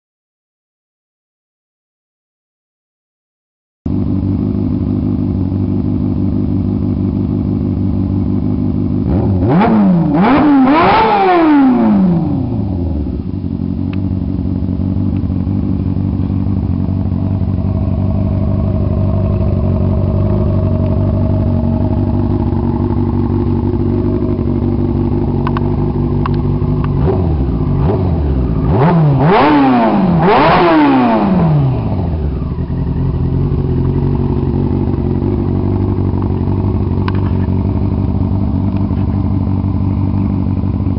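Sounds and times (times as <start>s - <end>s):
motorcycle engine idling and revving: 3.9s - 40.9s.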